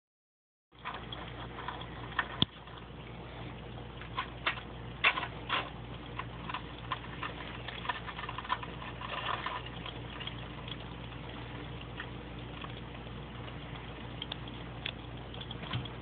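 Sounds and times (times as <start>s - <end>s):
steady low hum: 0.7s - 16.0s.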